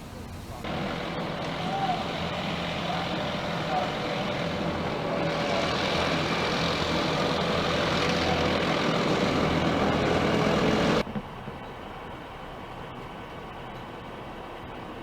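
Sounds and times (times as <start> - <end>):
large vehicle engine running: 0.4 - 15.0.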